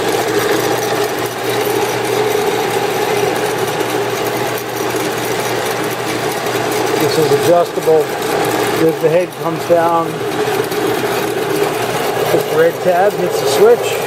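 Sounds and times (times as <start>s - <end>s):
band saw motor humming: 0.0s - 14.0s.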